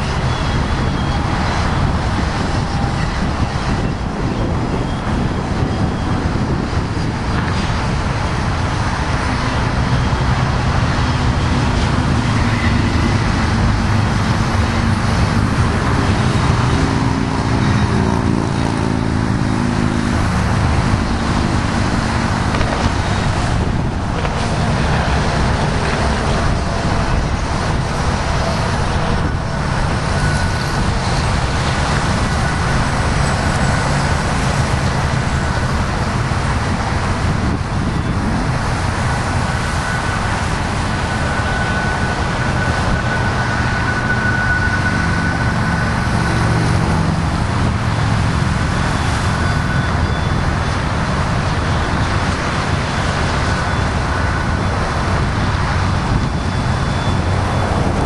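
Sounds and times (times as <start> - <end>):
highway traffic passing: 0.0 - 58.0.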